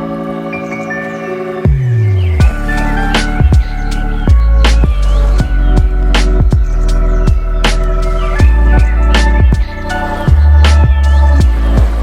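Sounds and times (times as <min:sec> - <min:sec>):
electronic background music: 0:00.0 - 0:12.0
sustained synth chords: 0:00.0 - 0:12.0
deep kick drum hits: 0:01.7 - 0:07.8, 0:08.4 - 0:12.0.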